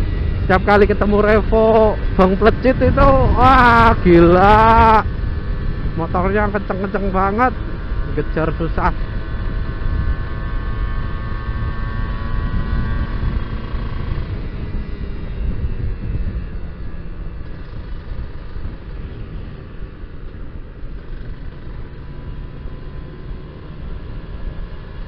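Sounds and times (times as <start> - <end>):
wind rushing on microphone: 0.0 - 21.4
motorcycle engine whine: 0.0 - 25.0.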